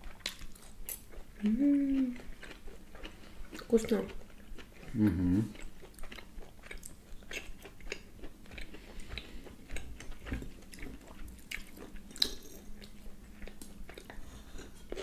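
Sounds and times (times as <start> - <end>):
person chewing steak: 0.0 - 15.0.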